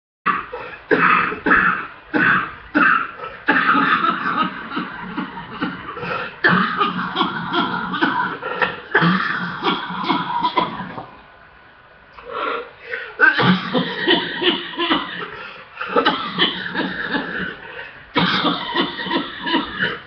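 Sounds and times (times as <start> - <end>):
woman coughing: 0.3 - 11.0, 13.2 - 15.3, 15.9 - 17.6, 18.2 - 20.0.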